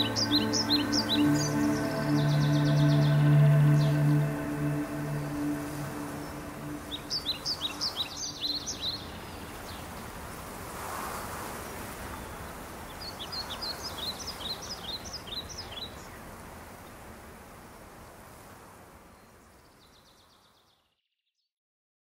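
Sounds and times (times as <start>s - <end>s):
background hiss: 0.0s - 20.6s.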